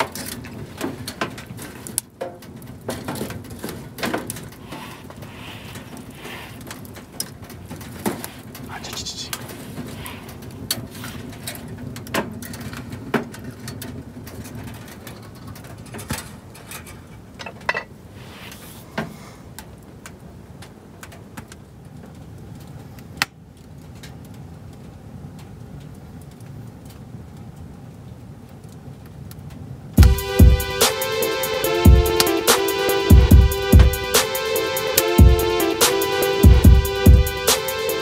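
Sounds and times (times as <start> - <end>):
fire crackling and popping: 0.0 - 38.0.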